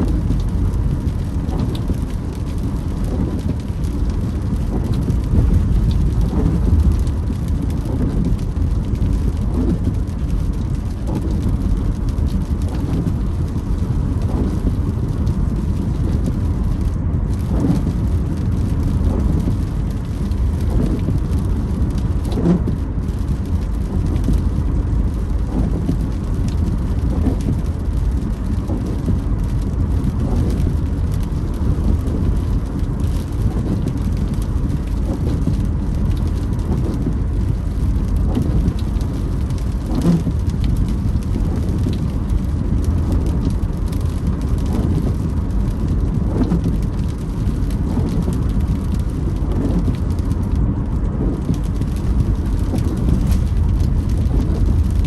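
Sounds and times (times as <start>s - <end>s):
car engine and tyres rumbling: 0.0s - 55.0s
rain on car body: 0.0s - 55.0s
windscreen wipers creaking: 0.0s - 55.0s.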